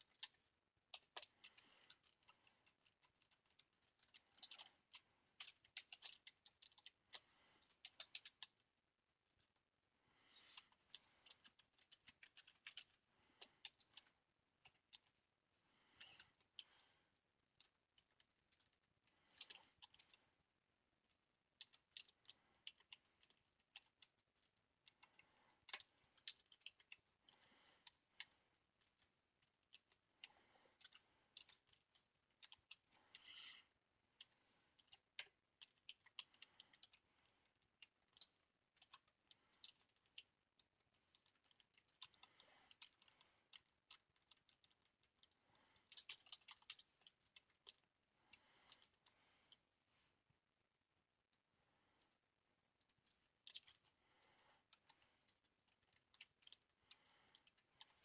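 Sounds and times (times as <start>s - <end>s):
faint keyboard typing: 0.0s - 58.0s.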